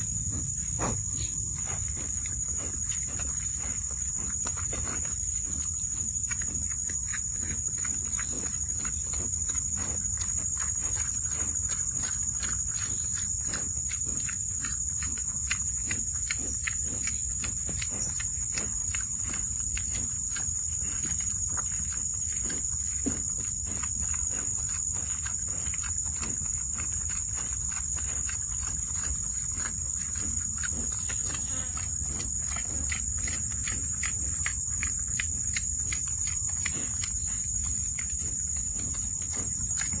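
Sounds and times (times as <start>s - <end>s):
insect chorus: 0.0s - 40.0s.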